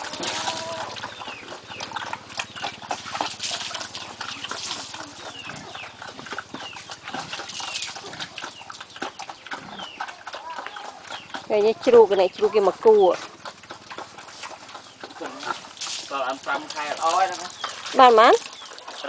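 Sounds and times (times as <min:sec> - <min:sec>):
pigs jostling and eating: 0:00.0 - 0:19.0.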